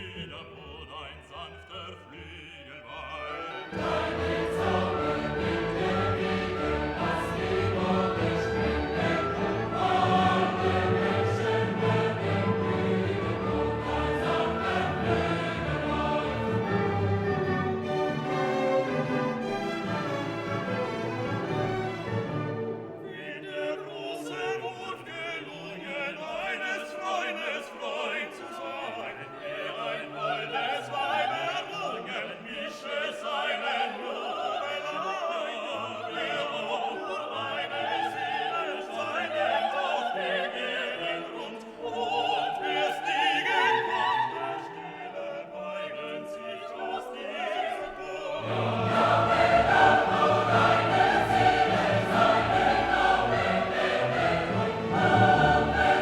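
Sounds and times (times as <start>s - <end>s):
choral singing with orchestra: 0.0s - 56.0s.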